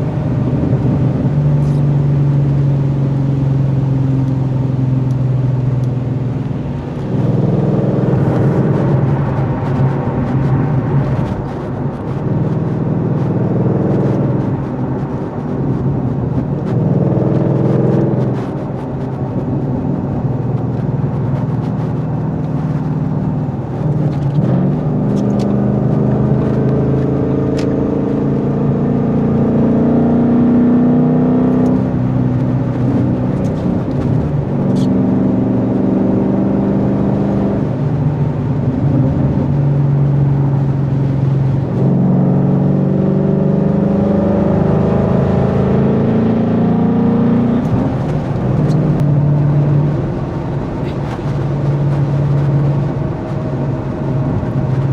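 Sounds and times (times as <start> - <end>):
car exhaust rising and falling: 0.0 - 54.9.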